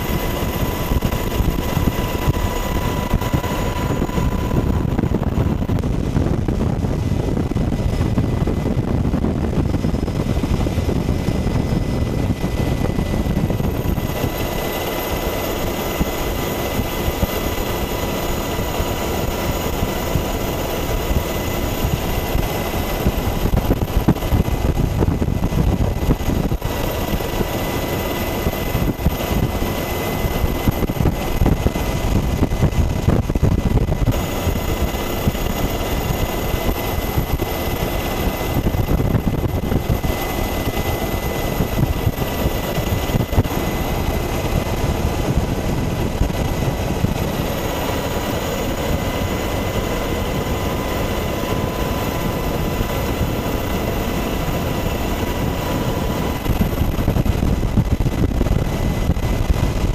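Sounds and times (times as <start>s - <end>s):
helicopter rotor chop: 0.0s - 59.9s
thin steady whine: 0.0s - 59.9s.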